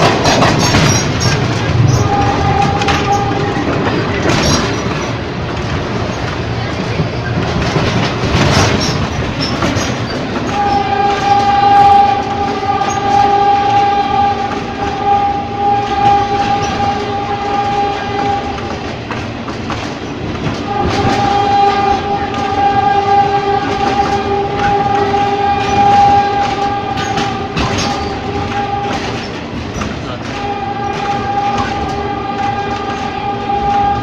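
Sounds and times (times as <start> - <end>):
train horn blast: 0.0 - 5.2, 10.4 - 19.3, 20.4 - 34.0
electric train running on rails: 0.0 - 34.0.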